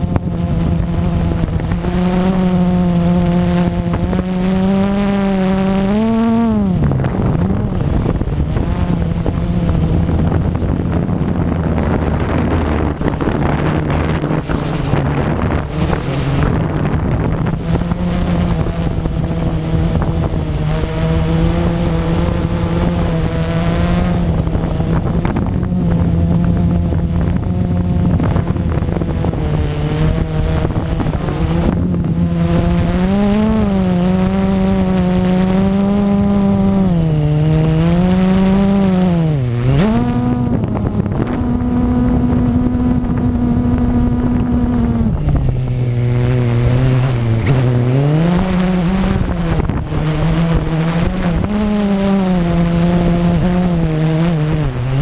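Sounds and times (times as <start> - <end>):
quadcopter motors buzzing: 0.0 - 55.0.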